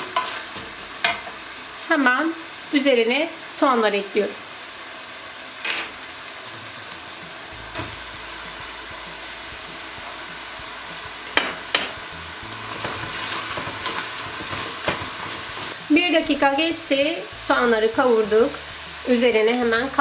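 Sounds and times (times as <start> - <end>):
meat and onion sizzling: 0.0 - 20.0.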